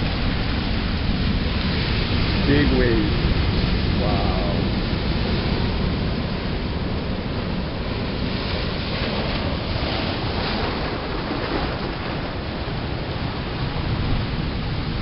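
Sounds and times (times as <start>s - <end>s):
surf breaking on rocks: 0.0s - 15.0s
wind buffeting microphone: 0.0s - 15.0s.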